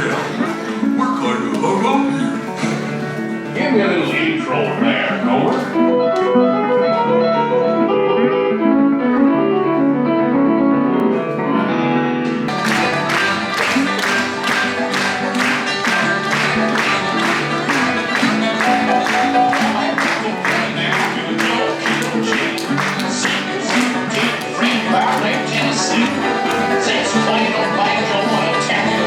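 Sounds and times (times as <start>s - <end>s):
organ-like keyboard chords: 0.0s - 29.0s.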